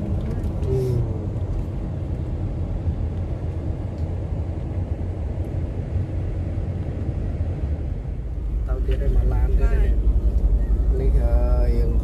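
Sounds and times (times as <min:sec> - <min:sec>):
car rumbling on the move: 0:00.0 - 0:12.0.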